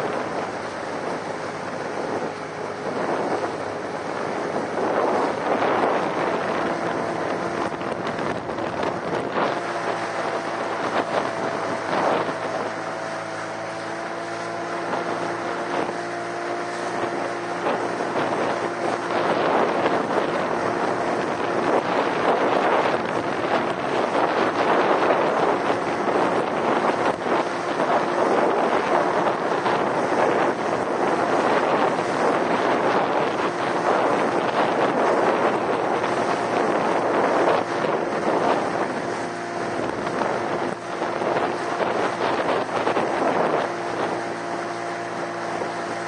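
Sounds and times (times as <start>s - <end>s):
boat engine humming: 0.0s - 46.0s
wind buffeting microphone: 0.0s - 46.0s.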